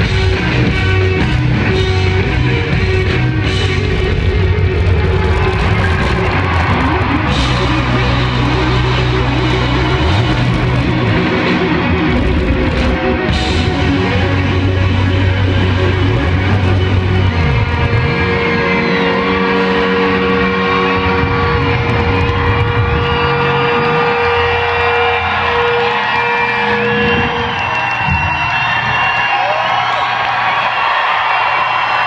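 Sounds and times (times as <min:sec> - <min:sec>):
live rock band playing: 0:00.0 - 0:29.0
distorted electric guitar: 0:00.0 - 0:30.4.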